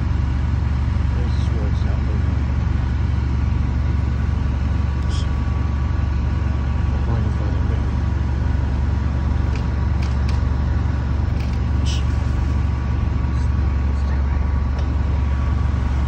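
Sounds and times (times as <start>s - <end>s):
faint steady whine: 0.0s - 16.0s
truck engine rumbling: 0.0s - 16.0s.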